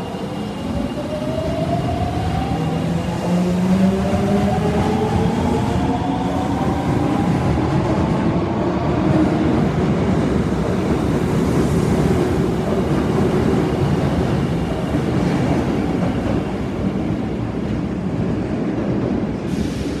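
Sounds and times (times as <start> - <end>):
train rolling noise: 0.0 - 20.0.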